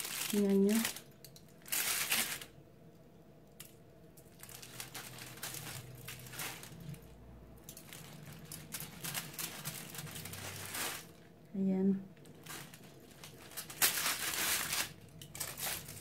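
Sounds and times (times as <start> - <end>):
aluminium foil crinkling: 0.0 - 2.6, 3.5 - 11.4, 12.2 - 16.0.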